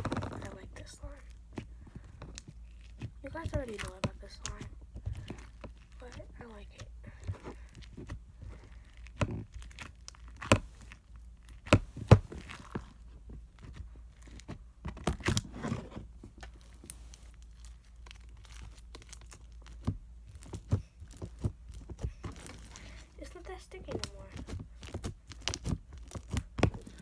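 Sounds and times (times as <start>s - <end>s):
slime squished by hand: 0.0s - 27.0s.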